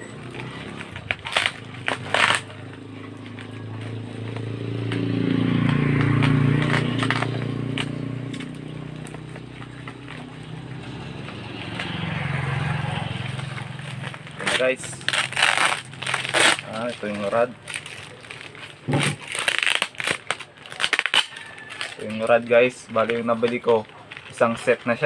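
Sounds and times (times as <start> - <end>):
vehicle engine passing: 0.0 - 20.8
packaging clicks and crackles: 0.1 - 25.0.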